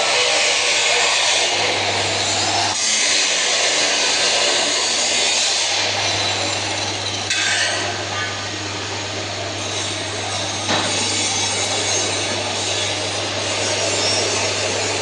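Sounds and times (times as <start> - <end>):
angle grinder cutting metal: 0.0 - 15.0.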